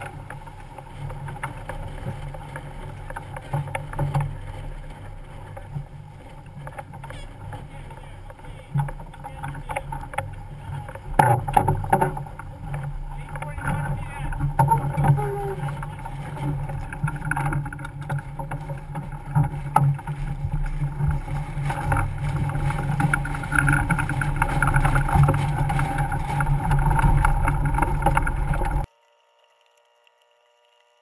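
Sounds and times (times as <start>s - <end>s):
water rushing past hull: 0.0s - 28.9s
wind on microphone: 0.0s - 28.9s.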